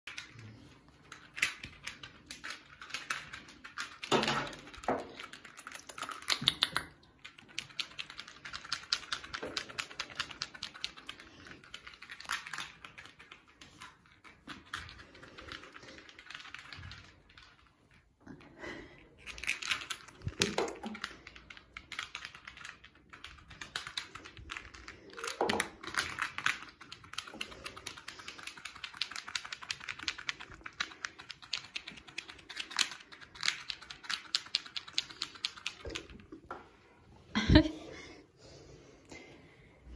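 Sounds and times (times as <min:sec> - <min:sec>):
kittens' claws clicking and scratching: 0:00.0 - 0:36.8.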